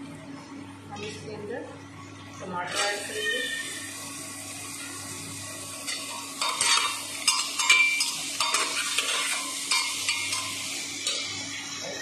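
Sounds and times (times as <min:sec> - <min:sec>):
frying sizzle: 0:02.1 - 0:12.0.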